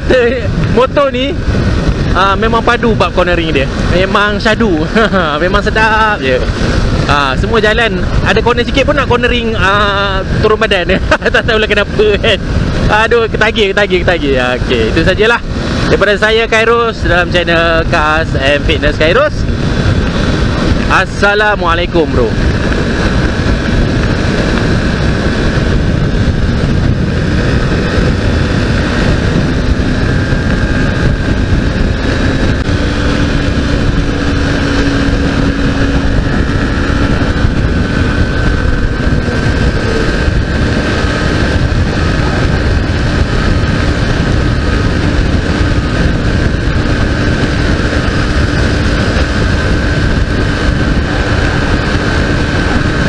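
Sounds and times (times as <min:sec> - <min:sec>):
motorcycle engine cruising: 0:00.0 - 0:53.0
wind rush on microphone: 0:00.0 - 0:53.0.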